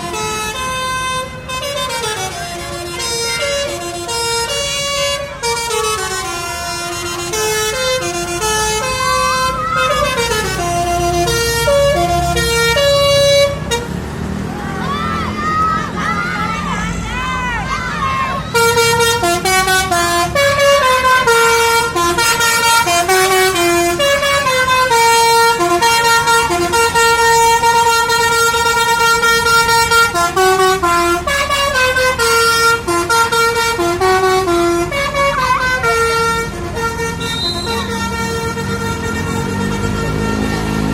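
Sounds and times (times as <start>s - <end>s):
musical bus air horn: 0.0s - 14.0s, 18.4s - 40.9s.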